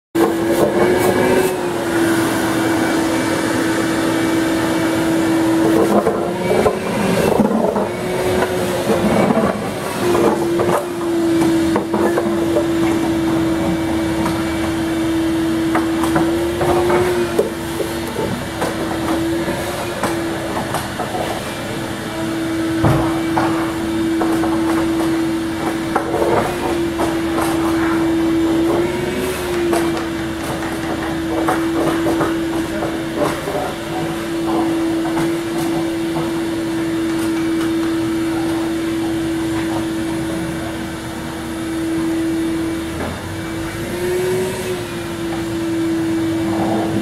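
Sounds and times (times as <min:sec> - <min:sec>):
workshop machinery whining: 0:00.2 - 0:47.0.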